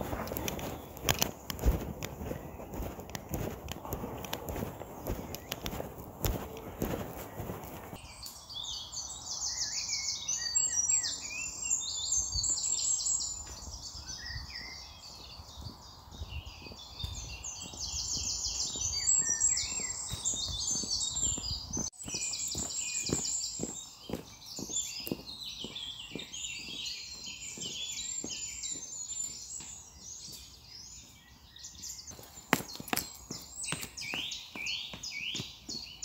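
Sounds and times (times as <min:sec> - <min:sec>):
boots crunching on earth path: 0:00.0 - 0:08.0, 0:13.6 - 0:31.2, 0:32.0 - 0:36.0
songbirds singing: 0:00.0 - 0:36.0.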